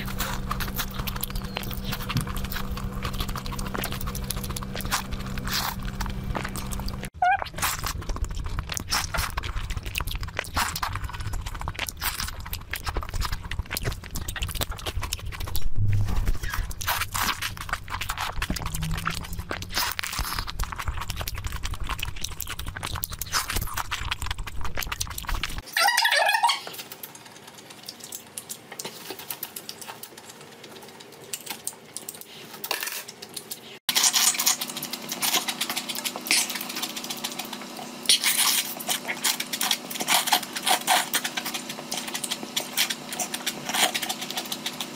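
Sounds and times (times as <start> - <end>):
noodles being slurped: 0.0 - 25.7, 33.9 - 44.9
wet chewing and lip smacking: 0.0 - 44.9.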